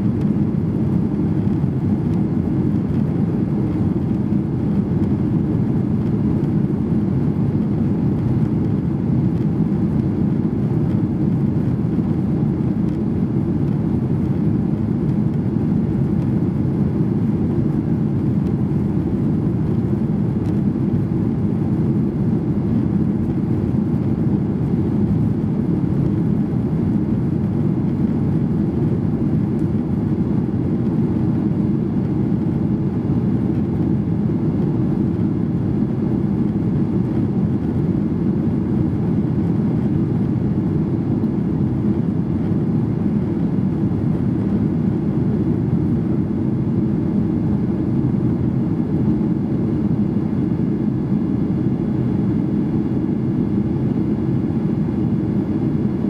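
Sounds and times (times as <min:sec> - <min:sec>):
airplane cabin jet rumble: 0:00.0 - 0:56.0.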